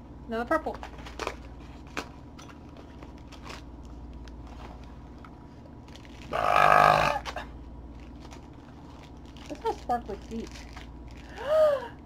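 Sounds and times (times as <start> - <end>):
packaging crinkling: 0.9 - 6.5, 7.1 - 11.5.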